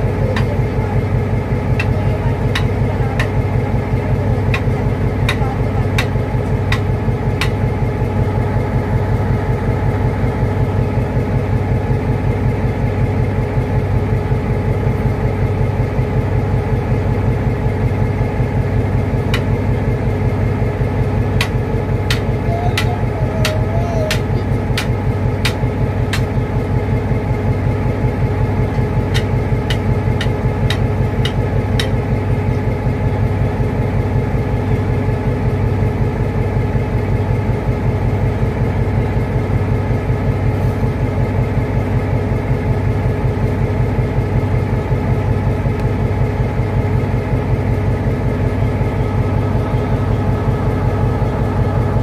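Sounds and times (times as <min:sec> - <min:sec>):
diesel train engine running: 0:00.0 - 0:52.0.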